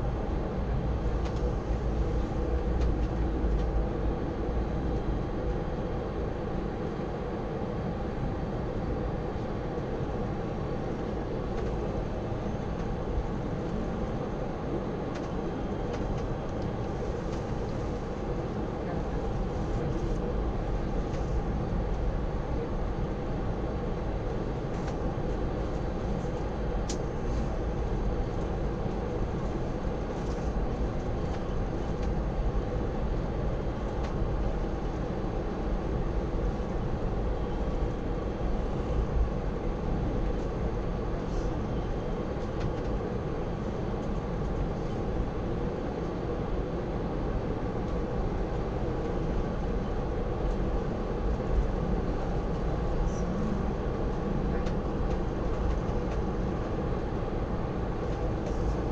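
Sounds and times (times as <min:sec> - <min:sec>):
aircraft cabin low rumble: 0:00.0 - 0:58.9.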